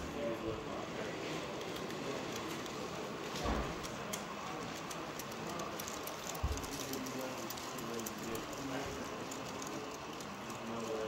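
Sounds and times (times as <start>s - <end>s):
people chattering: 0.0s - 11.0s.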